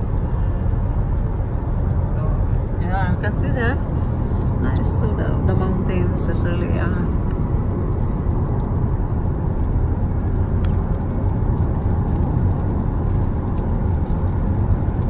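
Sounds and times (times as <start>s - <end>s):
car cabin road noise: 0.0s - 15.0s.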